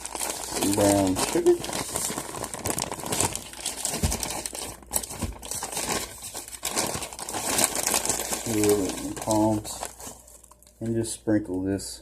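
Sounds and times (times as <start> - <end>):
bag crinkling and rustling: 0.0 - 11.0.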